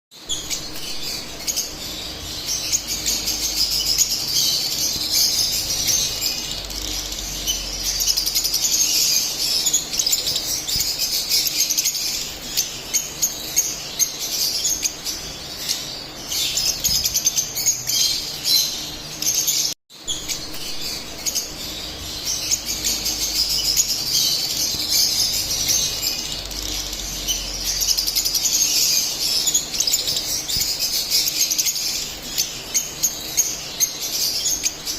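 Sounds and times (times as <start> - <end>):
lovebirds chirping and squeaking: 0.2 - 34.9.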